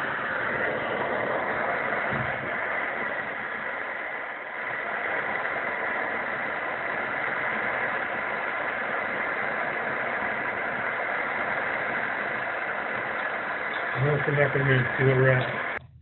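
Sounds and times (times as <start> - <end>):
heat gun blowing hiss: 0.0 - 15.8.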